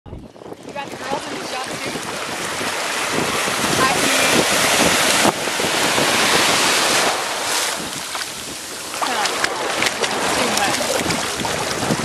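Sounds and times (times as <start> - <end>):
wave breaking in surf: 0.4 - 12.0.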